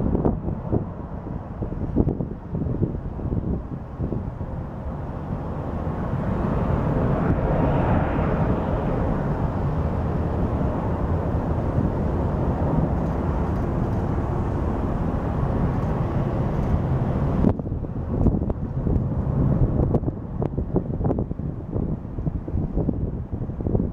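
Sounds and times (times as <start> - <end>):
jet engines roaring: 0.0 - 23.8.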